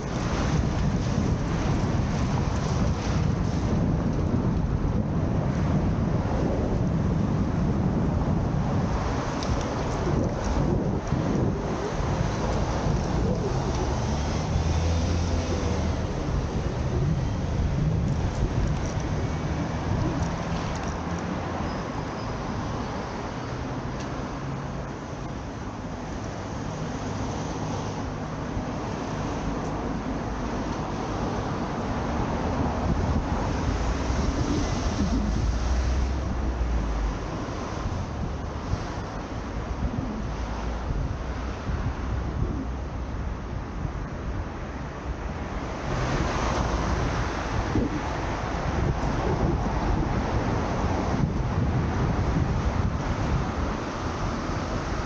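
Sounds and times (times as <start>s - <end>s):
traffic rumble: 0.0s - 55.0s
wind buffeting microphone: 0.0s - 55.0s.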